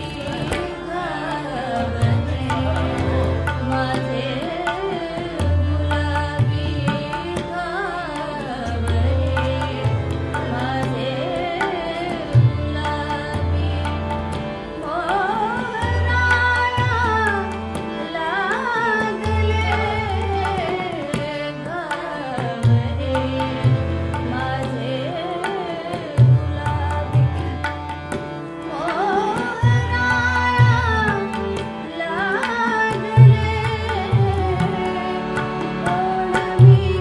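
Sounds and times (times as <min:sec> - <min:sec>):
harmonium: 0:00.0 - 0:37.0
woman singing: 0:00.0 - 0:37.0.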